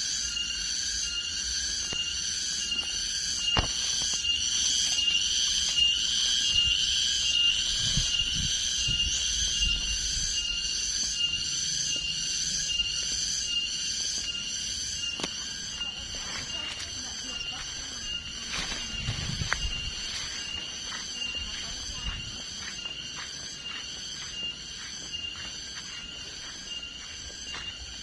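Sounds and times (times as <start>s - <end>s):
insects chirping in a chorus: 0.0s - 28.0s.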